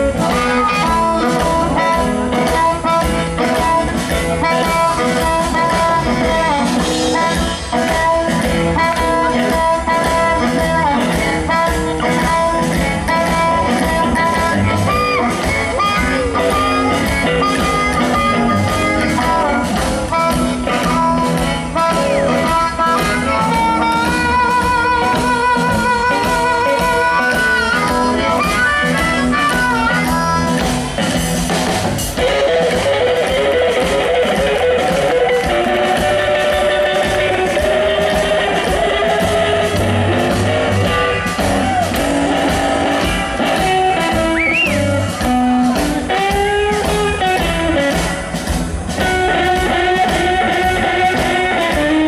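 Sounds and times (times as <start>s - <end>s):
harmonica through a microphone: 0.0s - 31.1s, 32.2s - 48.3s
blues band playing: 0.0s - 52.0s
drums keeping a steady beat: 0.0s - 52.0s
electric guitar: 0.0s - 52.0s
upright bass: 0.0s - 52.0s.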